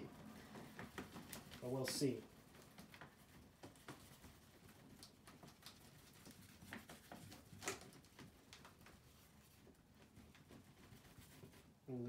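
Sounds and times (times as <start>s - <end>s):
paintbrush swishing on paper: 0.1s - 7.6s, 8.3s - 11.9s.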